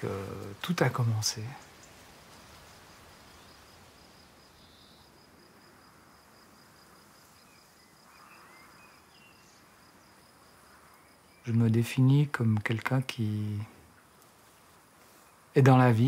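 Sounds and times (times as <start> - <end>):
faint bird chirps: 0.0 - 6.1, 6.8 - 16.0
insect chirping: 0.0 - 16.0.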